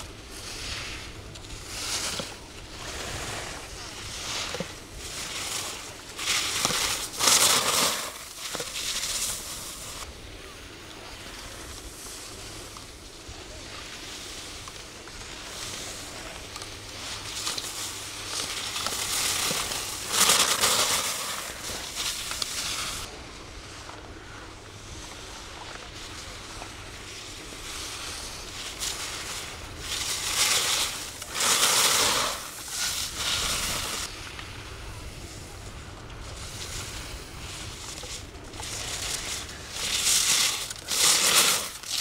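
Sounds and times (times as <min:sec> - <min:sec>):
skis scraping across snow: 0:00.0 - 0:42.0.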